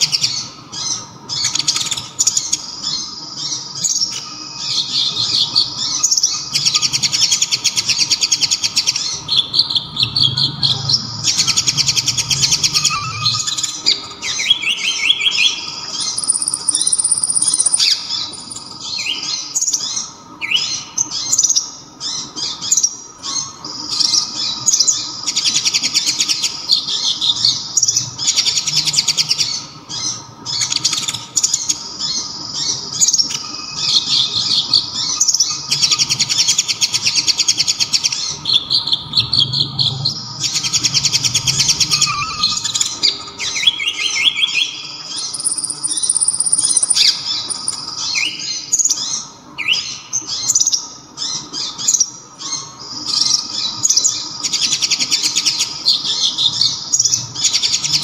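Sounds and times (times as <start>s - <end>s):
sunbird song with chirps and trills: 0.0s - 58.0s.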